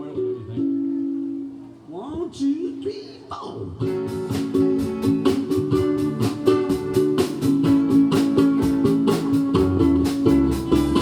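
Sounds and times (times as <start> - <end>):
ukuleles strumming chords: 0.0 - 11.0.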